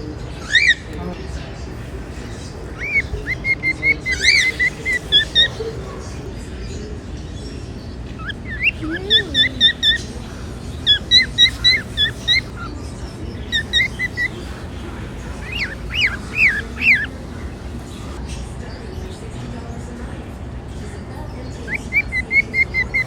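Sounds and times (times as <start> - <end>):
cockatiels chirping: 0.0 - 23.0.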